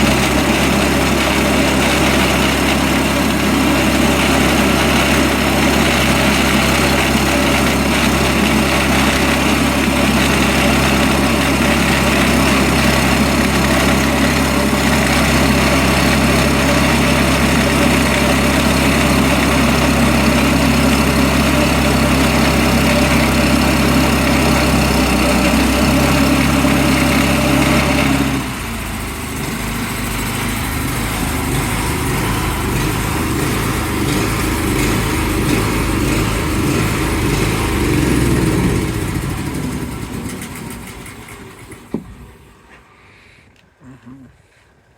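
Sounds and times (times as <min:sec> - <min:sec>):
sawmill engine running: 0:00.0 - 0:43.0.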